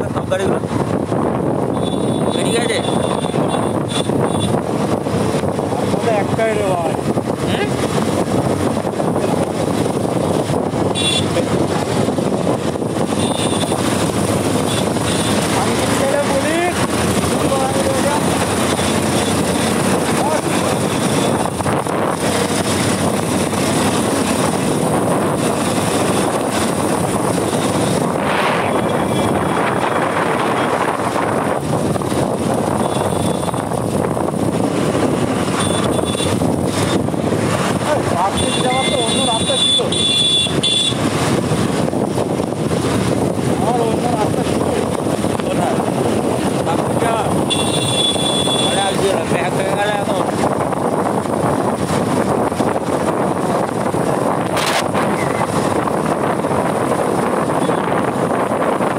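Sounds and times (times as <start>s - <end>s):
motorcycle engine: 0.0s - 58.9s
wind rushing on microphone: 0.0s - 58.9s.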